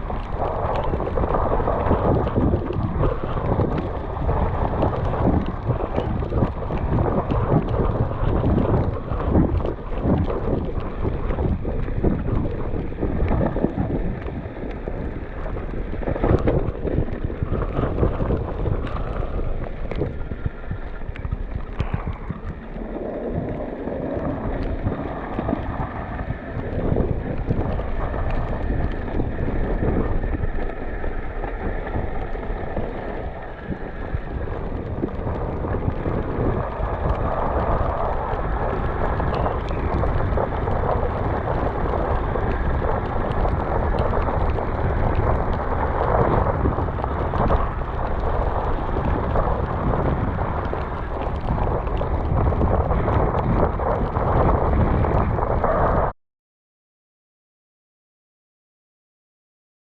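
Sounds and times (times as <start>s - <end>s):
bike rolling noise: 0.0s - 56.1s
wind buffeting microphone: 0.0s - 56.1s.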